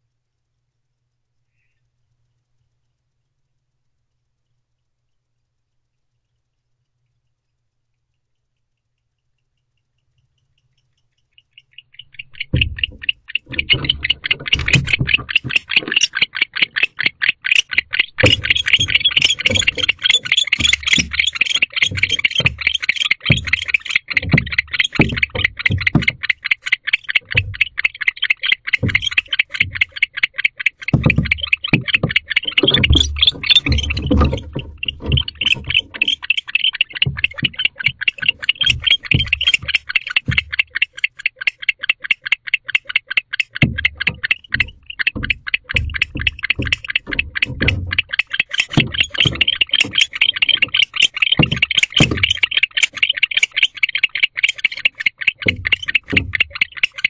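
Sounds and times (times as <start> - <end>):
owl high clicking calls: 1.5 - 1.9, 8.1 - 57.0.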